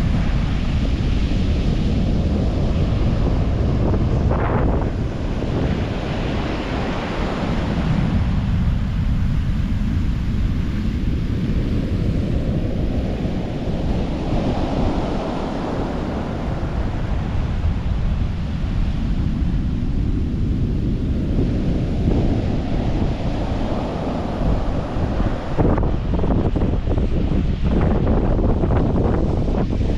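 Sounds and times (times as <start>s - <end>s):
surf breaking on beach: 0.0s - 29.9s
wind buffeting microphone: 0.0s - 29.9s.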